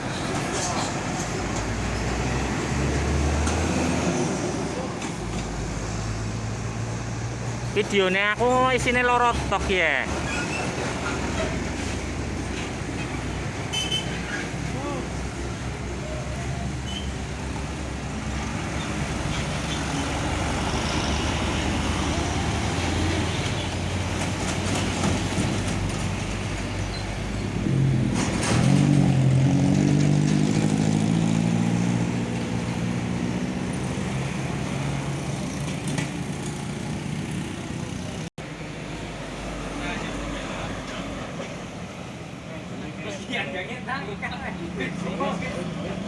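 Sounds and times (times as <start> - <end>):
truck passing close by: 0.0 - 42.1
road traffic noise: 0.0 - 46.0.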